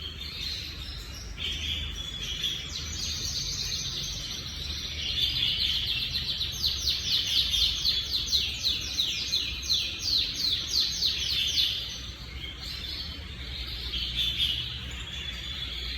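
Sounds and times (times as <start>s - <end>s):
canary singing: 0.0s - 15.9s.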